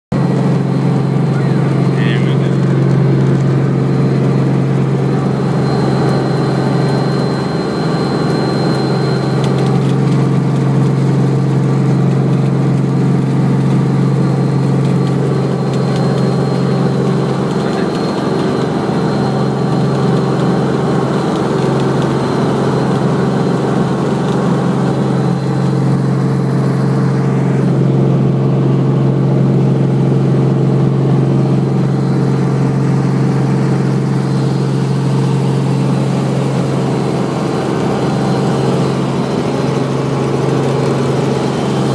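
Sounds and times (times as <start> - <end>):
helicopter engine and rotor: 0.1 - 41.9.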